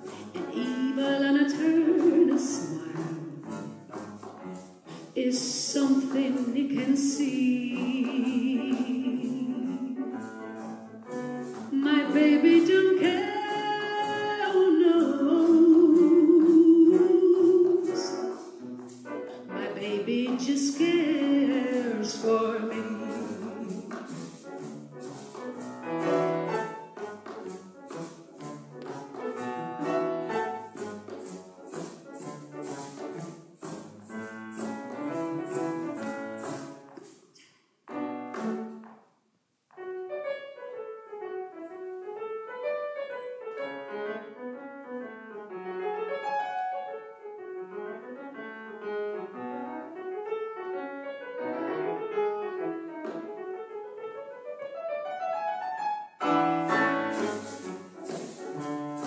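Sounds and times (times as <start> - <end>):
piano solo: 0.0 - 37.1, 39.8 - 59.0
piano and strings playing swing: 0.0 - 39.1, 39.7 - 59.0.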